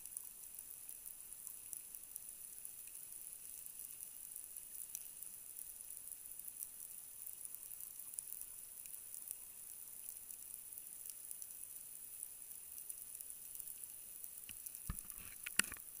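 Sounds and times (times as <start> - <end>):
snapping shrimp crackle underwater: 0.0 - 16.0.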